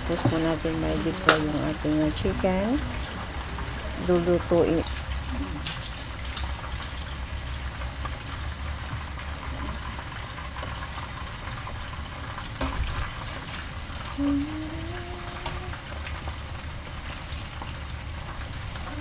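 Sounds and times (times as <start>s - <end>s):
food deep-frying in oil: 0.0s - 19.0s.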